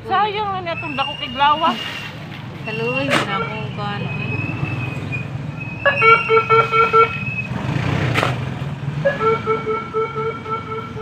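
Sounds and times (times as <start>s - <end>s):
vehicle horn beeping: 0.6s - 7.5s, 9.0s - 11.0s.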